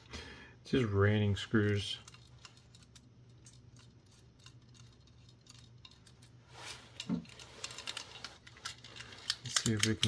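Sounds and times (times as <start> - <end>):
low steady hum: 0.0 - 10.0
small parts clicking: 1.6 - 10.0.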